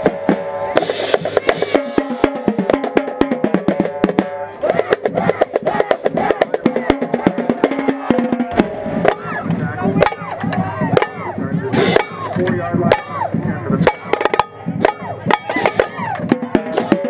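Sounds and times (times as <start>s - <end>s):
marching band playing: 0.0s - 17.0s
tenor drums hits: 0.0s - 17.0s.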